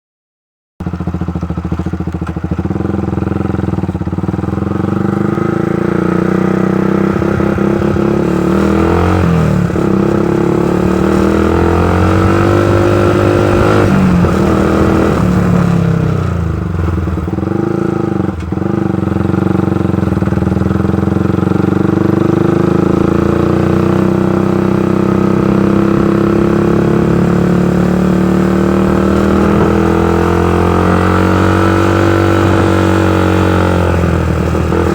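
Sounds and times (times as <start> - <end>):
motorcycle engine running: 0.8 - 34.9.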